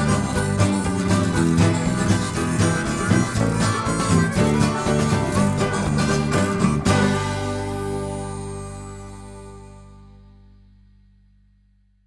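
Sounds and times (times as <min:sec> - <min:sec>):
background music low held notes: 0:00.0 - 0:12.0.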